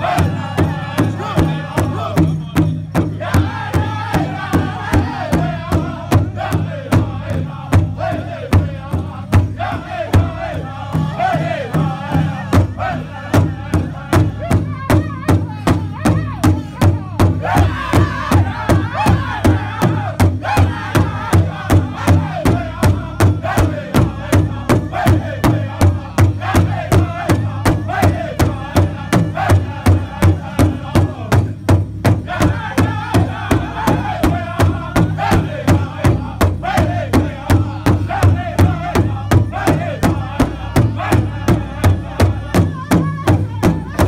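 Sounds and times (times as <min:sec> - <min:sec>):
high-pitched group singing: 0:00.0 - 0:02.4, 0:03.0 - 0:16.5, 0:17.4 - 0:44.0
hide drum beating in unison: 0:00.0 - 0:44.0.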